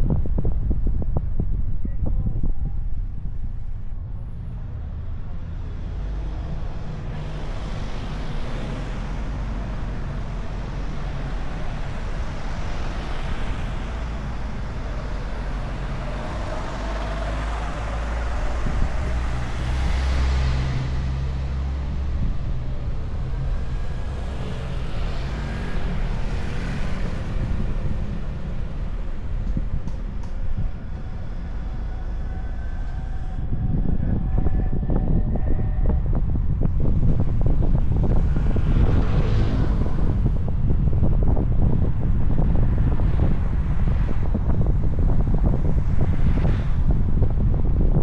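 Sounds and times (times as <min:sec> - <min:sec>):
car engine and road rumble: 0:00.0 - 0:48.0
wind noise: 0:00.0 - 0:48.0.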